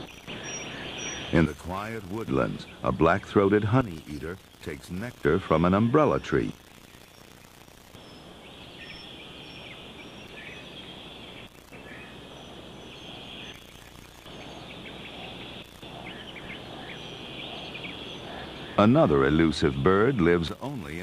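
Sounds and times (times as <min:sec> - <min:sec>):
high hissing insect buzz: 0:00.0 - 0:21.0
small birds chirping: 0:00.0 - 0:21.0.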